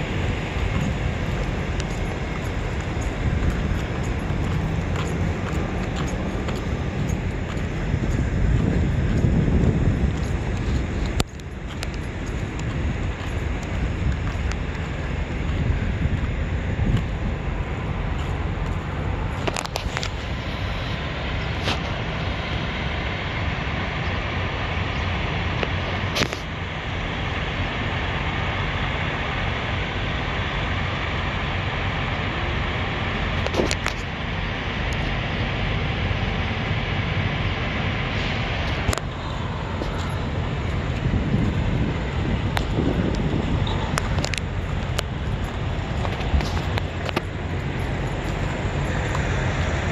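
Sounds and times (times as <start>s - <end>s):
trucks rumbling: 0.0s - 49.9s.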